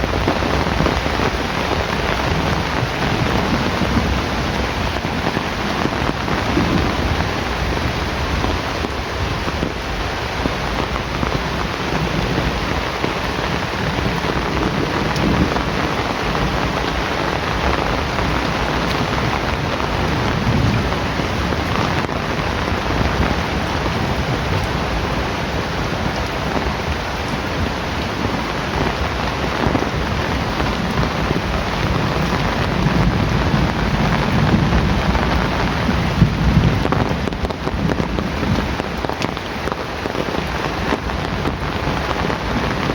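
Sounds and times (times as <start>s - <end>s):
heavy rain falling: 0.0s - 42.9s
thunder rumbling: 0.0s - 42.9s.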